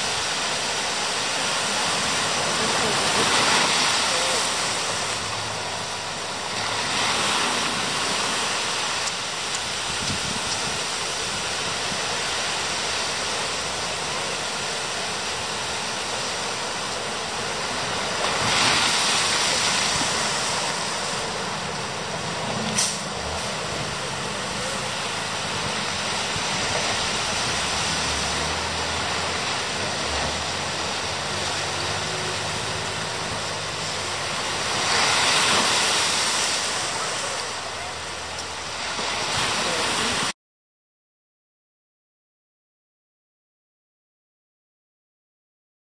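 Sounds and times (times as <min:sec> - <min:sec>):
ocean surf on beach: 0:00.0 - 0:40.4.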